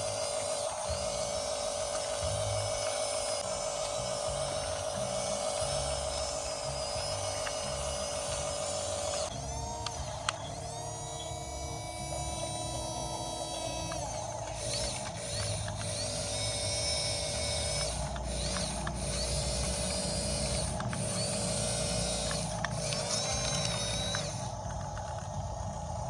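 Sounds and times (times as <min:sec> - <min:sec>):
toy motors and gears whining: 0:00.0 - 0:26.0.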